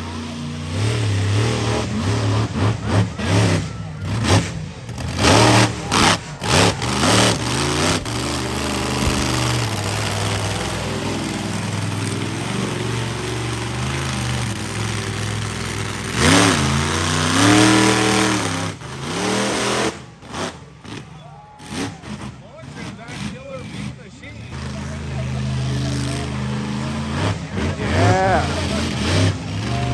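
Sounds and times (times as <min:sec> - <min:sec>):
monster truck engine revving: 0:00.0 - 0:29.9.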